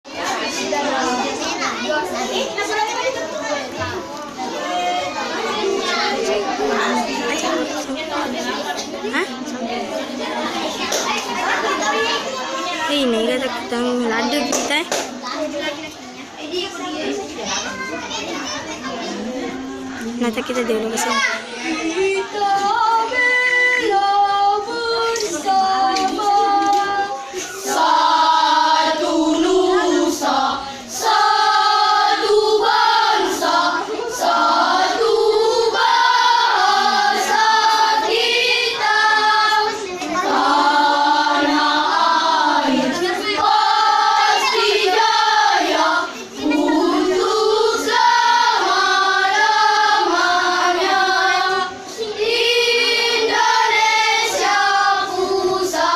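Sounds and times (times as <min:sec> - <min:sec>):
children's choir singing: 0:00.0 - 0:15.5, 0:16.2 - 0:55.9.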